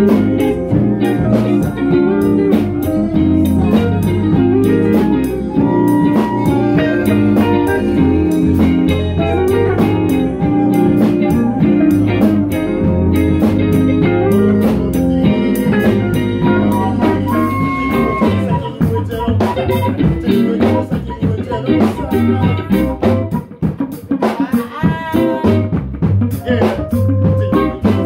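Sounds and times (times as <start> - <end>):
bass notes: 0.0 - 28.0
drum kit beat: 0.0 - 28.0
electric guitar lines: 0.0 - 28.0.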